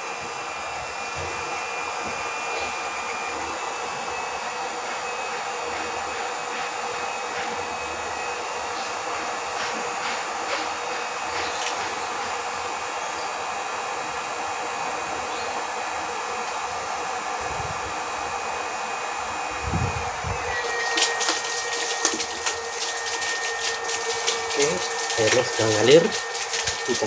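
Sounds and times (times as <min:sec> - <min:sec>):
water pump whirring: 0:00.0 - 0:27.0.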